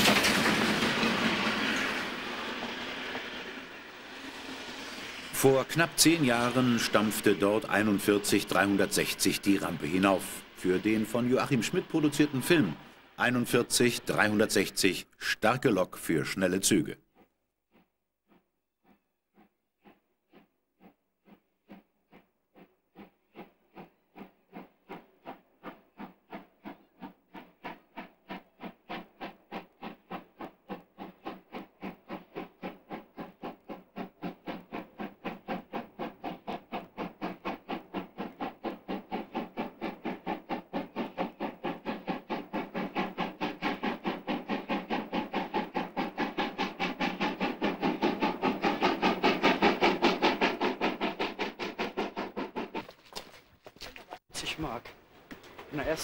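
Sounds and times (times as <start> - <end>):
steam locomotive chuffing: 0.0 - 53.1.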